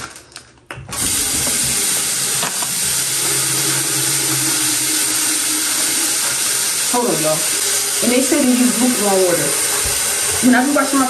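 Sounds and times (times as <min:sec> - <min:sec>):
faucet running into sink: 0:00.9 - 0:11.0.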